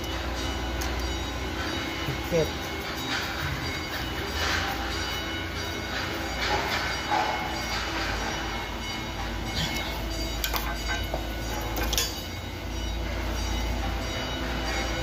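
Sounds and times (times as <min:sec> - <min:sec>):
machinery rumble with hum: 0:00.0 - 0:15.0.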